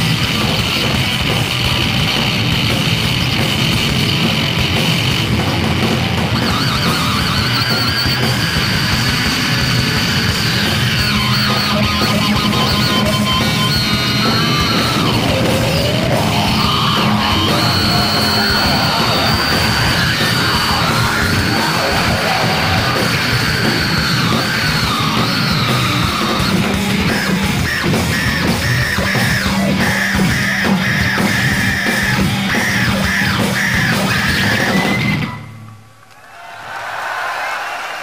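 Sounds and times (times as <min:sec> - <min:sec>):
heavy metal band playing: 0:00.0 - 0:35.7.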